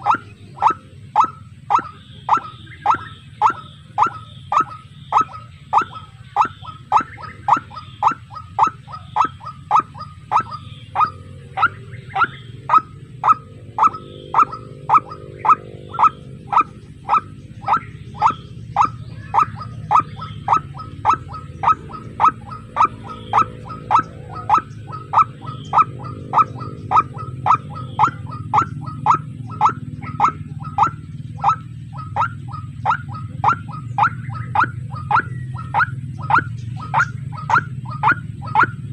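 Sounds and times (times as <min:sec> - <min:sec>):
steady low hum: 0:00.0 - 0:38.9
waterhen calling: 0:00.0 - 0:38.9.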